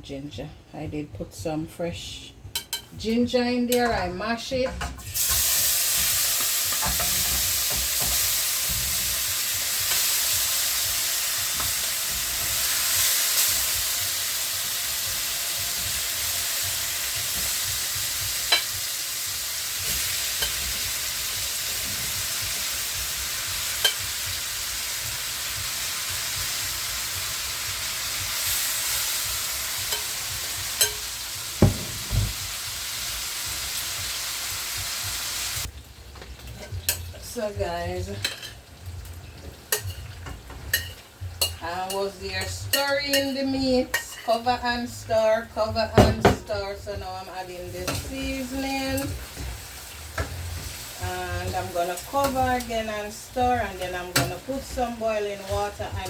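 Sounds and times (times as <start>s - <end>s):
chicken sizzling in a pot: 5.0s - 56.0s.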